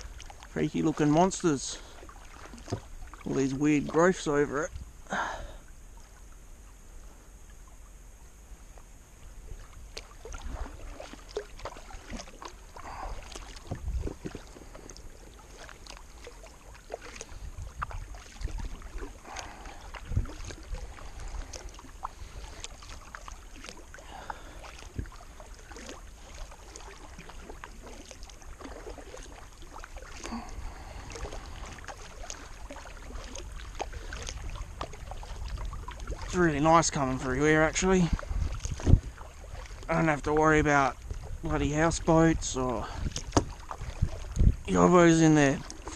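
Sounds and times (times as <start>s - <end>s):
paddle splashing in water: 0.0s - 6.7s, 8.6s - 45.9s.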